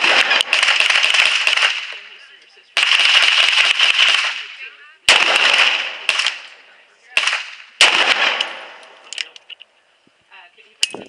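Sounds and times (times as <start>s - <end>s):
revolver gunshots: 0.0s - 9.2s.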